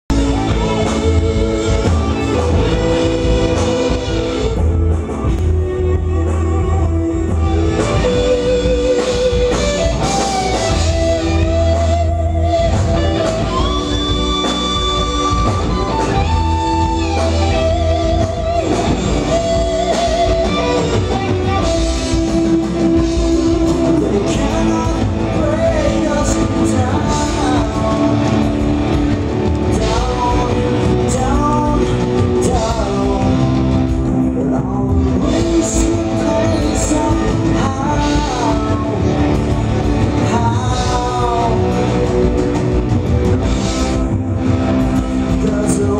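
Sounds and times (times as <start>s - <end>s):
rock band playing live: 0.0s - 45.9s
person singing: 0.1s - 44.1s, 44.8s - 45.9s.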